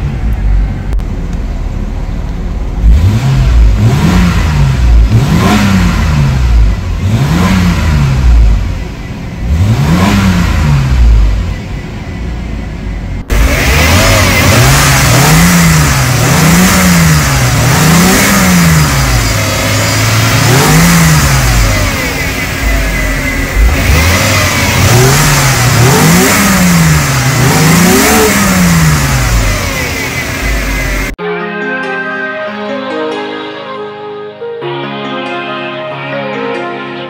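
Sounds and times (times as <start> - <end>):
car engine idling: 0.0 - 31.2
car engine revving: 0.0 - 31.2.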